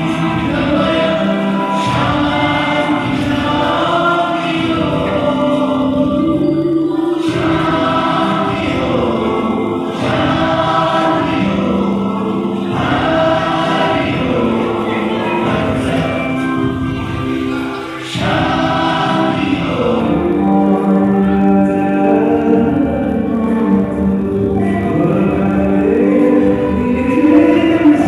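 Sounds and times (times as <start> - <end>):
group of voices singing: 0.0 - 28.0.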